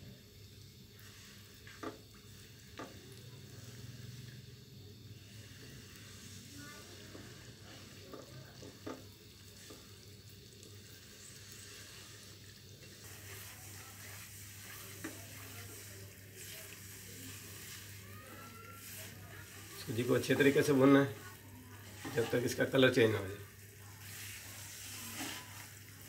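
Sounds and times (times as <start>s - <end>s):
semolina sizzling in ghee: 0.0s - 26.0s.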